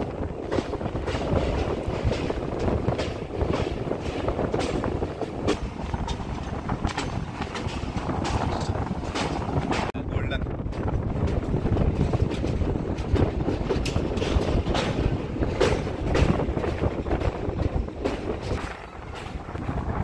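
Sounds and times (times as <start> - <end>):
rail joint clicks: 0.0 - 20.0
train wheels rumbling on rail: 0.0 - 20.0.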